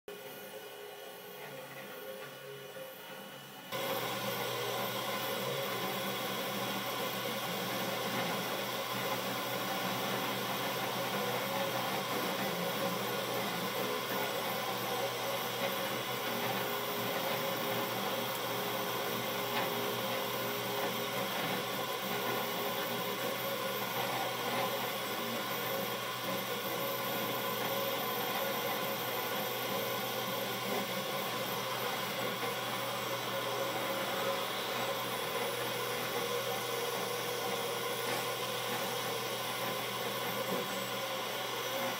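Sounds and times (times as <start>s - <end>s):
fans and motors humming: 0.1s - 41.9s
printer whirring: 0.1s - 41.9s.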